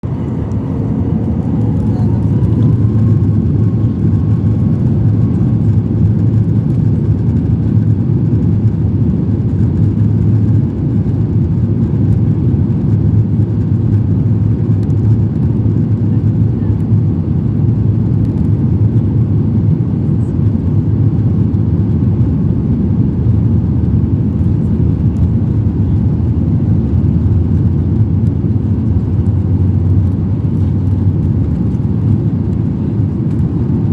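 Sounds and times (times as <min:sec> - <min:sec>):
jet engine low rumble: 0:00.0 - 0:33.9
jet engines whining: 0:00.0 - 0:33.9.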